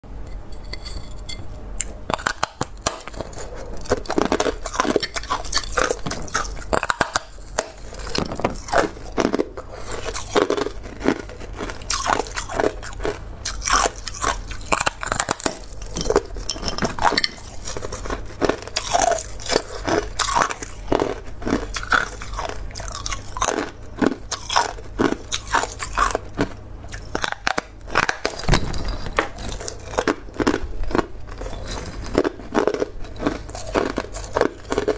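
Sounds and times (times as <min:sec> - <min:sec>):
ice being chewed: 0:01.8 - 0:28.4, 0:29.3 - 0:34.9.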